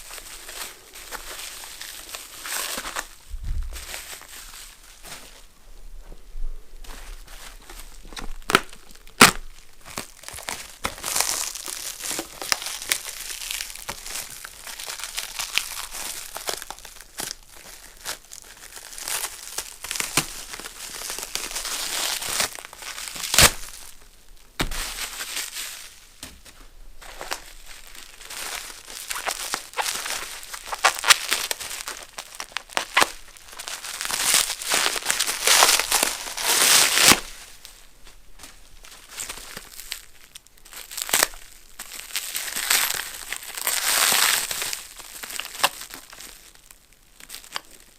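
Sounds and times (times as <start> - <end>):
wrapping crinkling and tearing: 0.0 - 5.5, 6.8 - 47.9.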